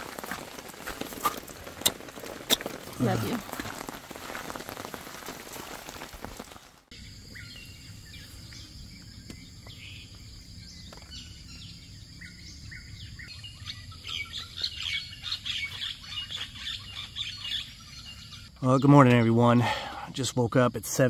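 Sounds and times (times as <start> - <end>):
birds chirping: 0.0 - 5.2, 5.9 - 21.0.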